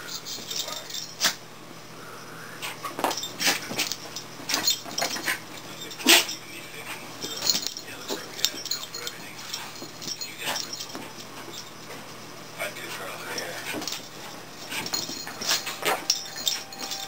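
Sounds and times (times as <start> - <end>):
light metallic clinks: 0.0 - 1.3, 3.0 - 17.0
pets scuffling on a bed: 2.6 - 17.0.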